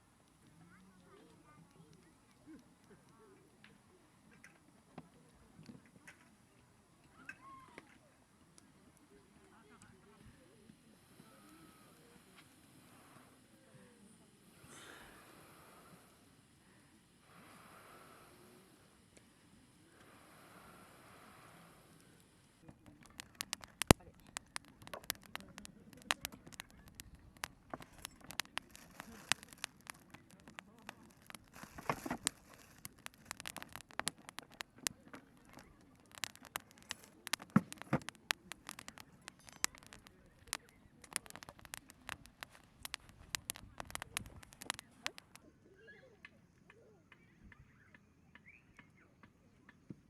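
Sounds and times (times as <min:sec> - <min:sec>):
campfire crackling and popping: 0:00.0 - 0:13.6, 0:14.3 - 0:45.5
faint chirps: 0:00.4 - 0:49.7.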